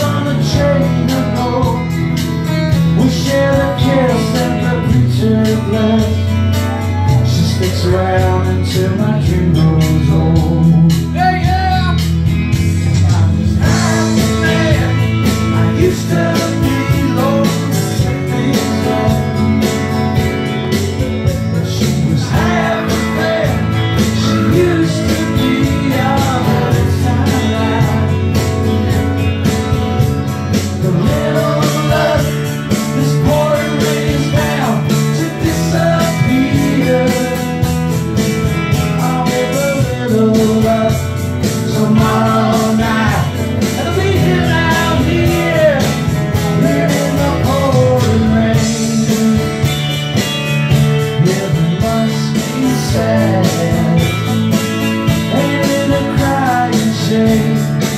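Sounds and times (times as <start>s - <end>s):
man singing: 0.0s - 29.1s, 30.5s - 50.1s, 50.7s - 57.9s
strummed acoustic guitars: 0.0s - 57.9s.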